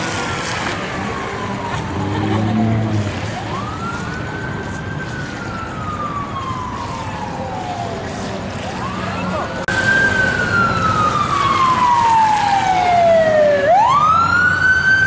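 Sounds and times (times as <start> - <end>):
emergency siren wailing: 0.0 - 15.0
street noise: 0.0 - 15.0.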